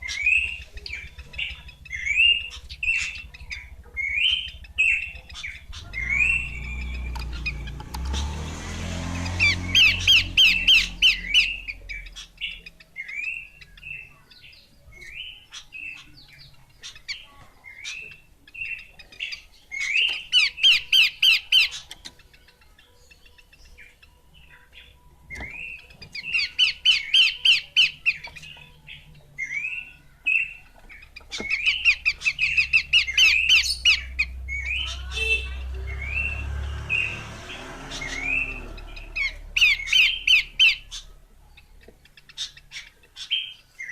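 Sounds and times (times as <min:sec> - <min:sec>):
bird singing rapid notes: 0:00.0 - 0:43.9.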